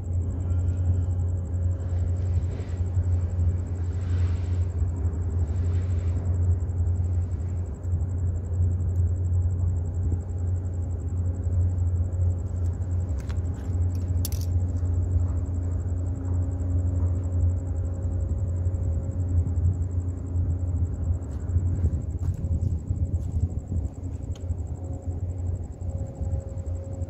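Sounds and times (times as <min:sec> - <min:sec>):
faint steady hum tones: 0:00.0 - 0:27.0
ship engine low rumble: 0:00.0 - 0:27.0.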